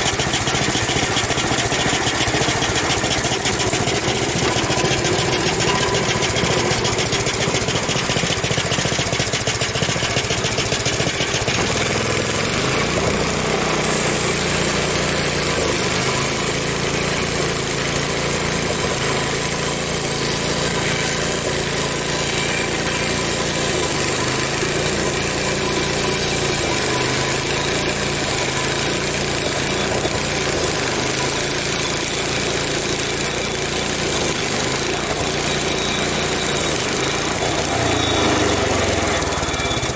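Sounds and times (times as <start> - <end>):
bandsaw mill engine cutting log: 0.0 - 39.9.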